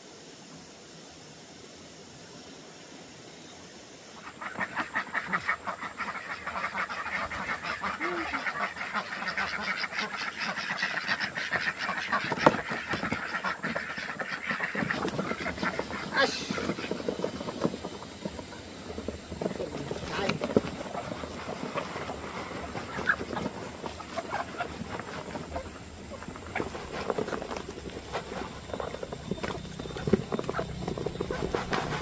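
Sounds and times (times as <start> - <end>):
flock of waterfowl calling: 4.2 - 32.0.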